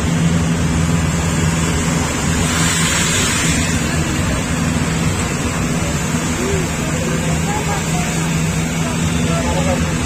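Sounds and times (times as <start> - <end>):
road noise: 0.0 - 10.0
vehicle engine running: 0.0 - 10.0.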